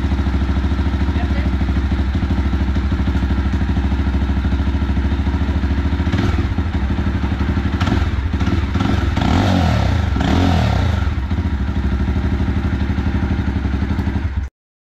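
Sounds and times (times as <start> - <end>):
motorcycle engine revving: 0.0 - 14.5.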